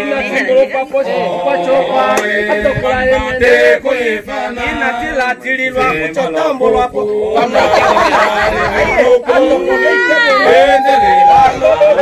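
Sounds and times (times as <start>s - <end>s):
group singing a chant-like song: 0.0s - 12.0s.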